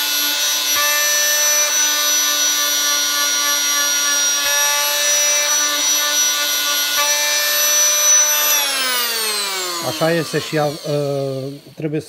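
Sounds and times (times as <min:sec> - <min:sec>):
oscillating multi-tool whining: 0:00.0 - 0:11.8.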